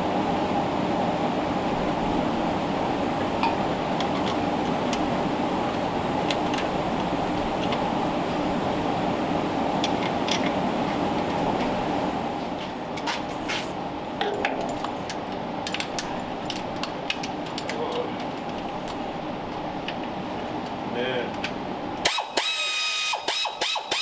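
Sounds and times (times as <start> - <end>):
steady noise: 0.0 - 23.1.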